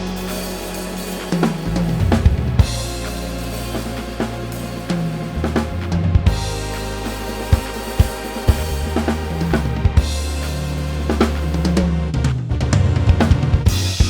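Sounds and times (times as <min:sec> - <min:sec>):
bass drum: 0:00.0 - 0:14.0
recorded music with bass line: 0:00.0 - 0:14.0.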